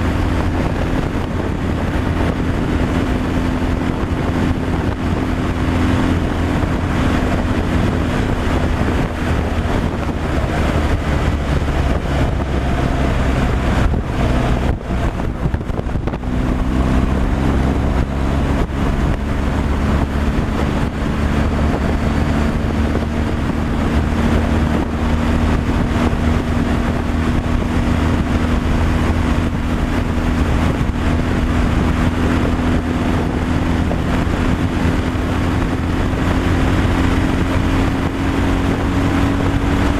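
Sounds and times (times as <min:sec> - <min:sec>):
truck engine running: 0:00.0 - 0:39.9
wind and road noise: 0:00.0 - 0:39.9.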